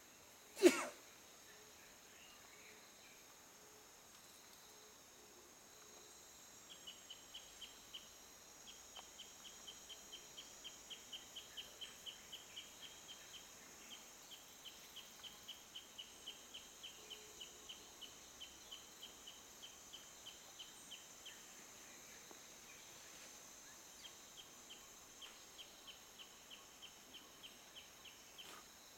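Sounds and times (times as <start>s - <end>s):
high insect drone: 0.1s - 28.9s.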